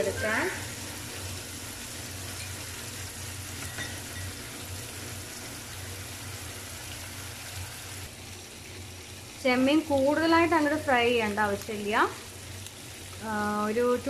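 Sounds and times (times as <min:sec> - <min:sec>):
prawns sizzling in oil: 0:00.0 - 0:14.0.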